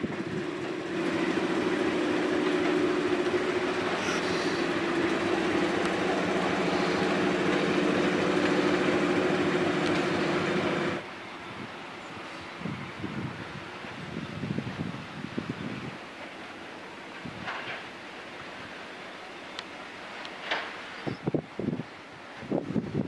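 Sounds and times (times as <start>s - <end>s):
diesel locomotive engine droning: 0.0s - 21.2s.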